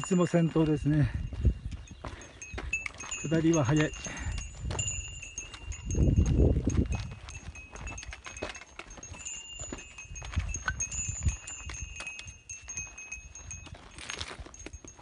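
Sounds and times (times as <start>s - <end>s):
footsteps crunching on stony trail: 0.0s - 15.0s
trekking poles clicking on rocks: 0.0s - 15.0s.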